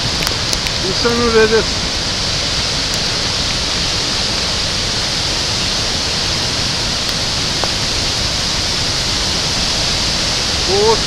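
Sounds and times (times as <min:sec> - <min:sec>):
spray falling like rain: 0:00.0 - 0:11.0
waterfall rushing: 0:00.0 - 0:11.0.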